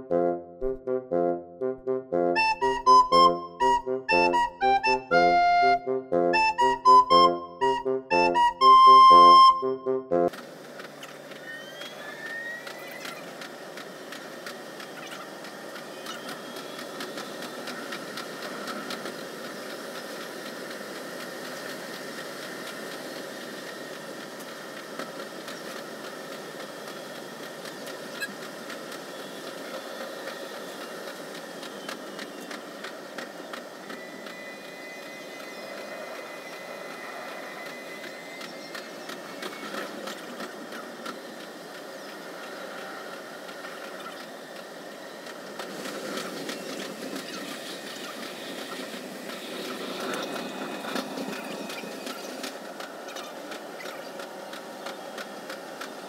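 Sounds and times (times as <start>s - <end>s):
train wheels clicking over rails: 10.3s - 56.0s.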